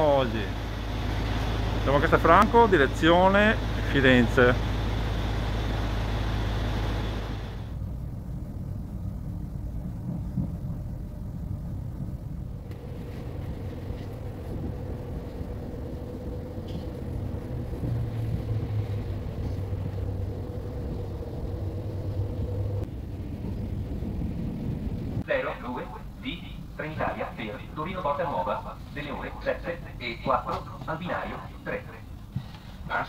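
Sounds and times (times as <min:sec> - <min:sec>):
steady hum: 0:00.0 - 0:33.0
train rumble inside carriage: 0:00.0 - 0:33.0.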